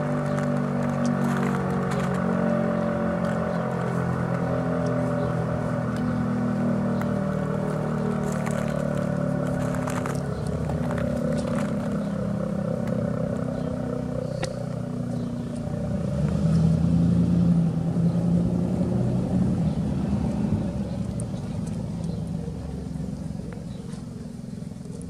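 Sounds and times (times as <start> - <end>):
rotating siren low tone: 0.0 - 21.2.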